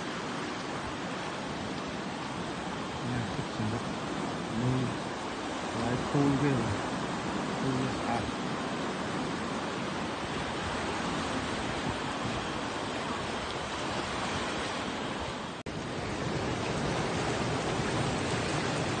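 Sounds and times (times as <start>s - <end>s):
surf washing over rocky shore: 0.0s - 19.0s.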